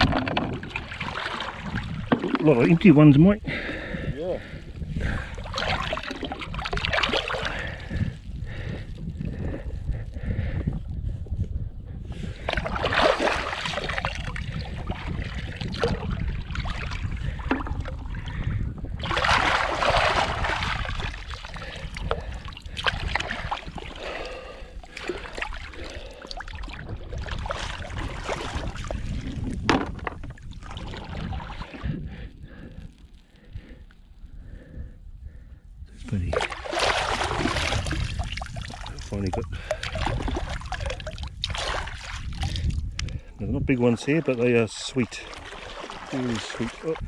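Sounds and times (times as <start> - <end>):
seawater splashing and sloshing: 0.0 - 9.6, 12.3 - 32.0, 36.2 - 43.2, 43.8 - 47.0
wind rumble on microphone: 0.0 - 47.0.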